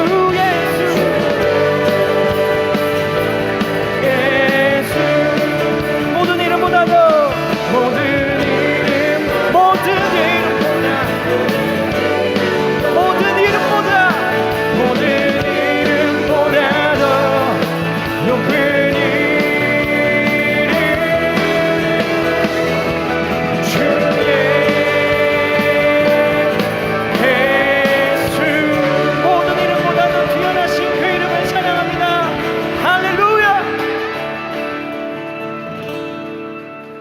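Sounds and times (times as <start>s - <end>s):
worship band music: 0.0s - 37.0s.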